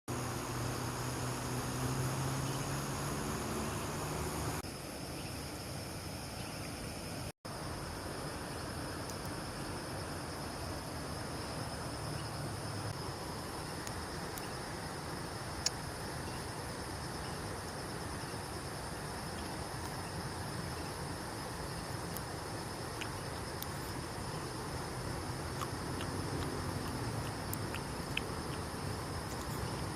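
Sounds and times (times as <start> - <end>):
insects chirring: 0.1 - 29.9.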